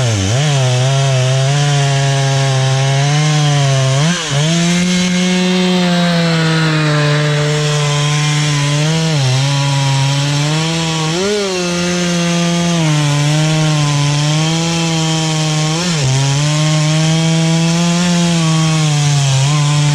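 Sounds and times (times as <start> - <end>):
chainsaw cutting log: 0.0 - 19.9.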